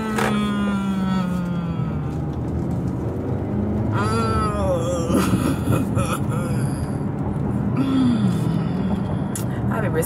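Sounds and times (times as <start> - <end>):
car cabin road noise: 0.0 - 10.0.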